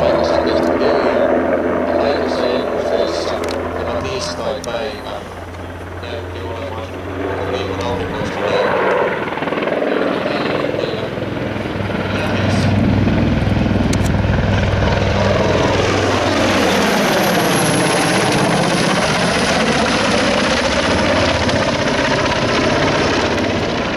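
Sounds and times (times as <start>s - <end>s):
helicopter engines and rotor: 0.0s - 23.9s
high turbine whine: 0.0s - 23.9s.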